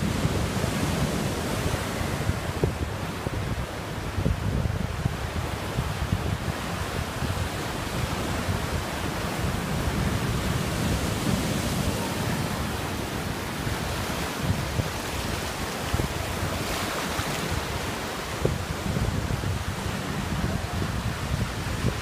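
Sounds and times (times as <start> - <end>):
surf breaking on rocks: 0.0 - 22.0
wind buffeting microphone: 0.0 - 22.0.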